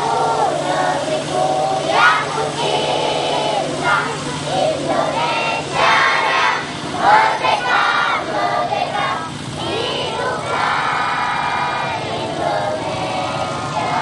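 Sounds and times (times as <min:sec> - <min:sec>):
choir with children's voices: 0:00.0 - 0:14.0.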